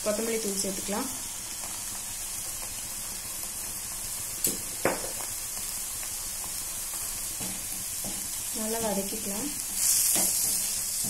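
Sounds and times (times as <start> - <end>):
spices sizzling in oil: 0.0 - 11.0.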